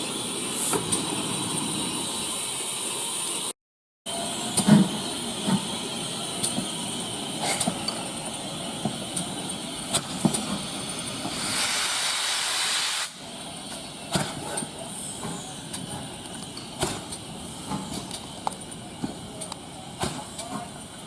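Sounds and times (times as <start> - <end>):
steam hissing: 0.0 - 3.5, 4.1 - 21.0.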